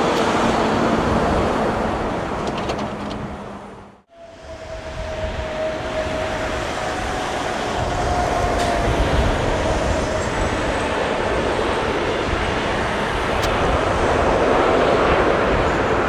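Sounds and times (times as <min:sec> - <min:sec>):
airliner engines running: 0:00.0 - 0:16.0.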